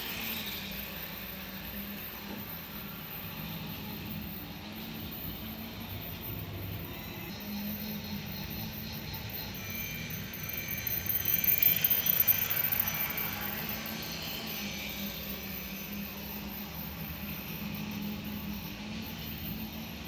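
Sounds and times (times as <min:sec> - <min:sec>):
model train motor and rail hum: 0:00.0 - 0:20.0.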